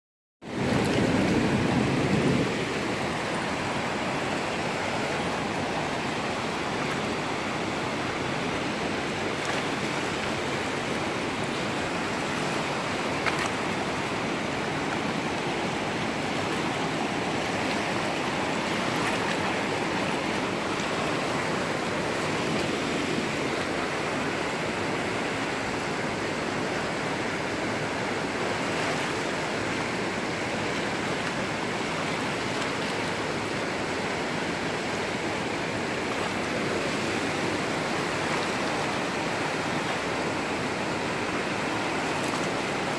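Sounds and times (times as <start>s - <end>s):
white water rushing: 0.4s - 42.9s.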